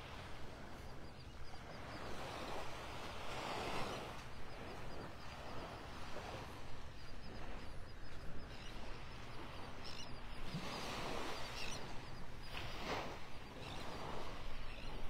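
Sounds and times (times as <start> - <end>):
gentle surf: 0.0 - 15.0
faint bird chirps: 0.4 - 2.8, 3.9 - 15.0.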